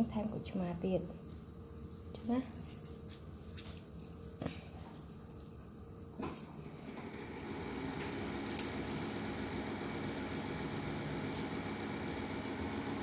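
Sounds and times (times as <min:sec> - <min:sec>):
juice dripping: 0:01.2 - 0:13.0.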